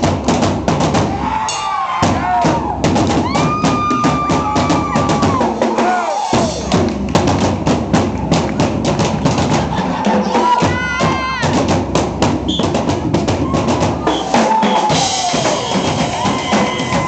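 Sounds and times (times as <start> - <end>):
drum kit kick and snare: 0.0 - 17.0.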